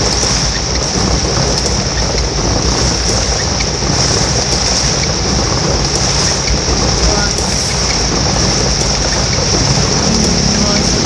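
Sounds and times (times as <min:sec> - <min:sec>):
heavy rain pouring: 0:00.0 - 0:11.0
low rumble: 0:00.0 - 0:11.0.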